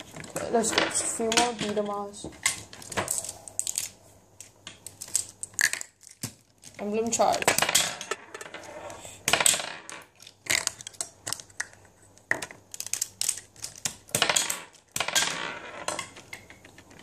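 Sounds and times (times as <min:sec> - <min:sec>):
marbles clattering and rolling: 0:00.2 - 0:03.9, 0:04.9 - 0:17.0.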